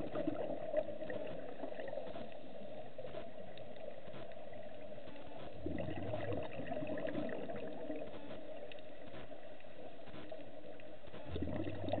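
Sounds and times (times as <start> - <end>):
regulator bubbles gurgling: 0.0 - 12.0.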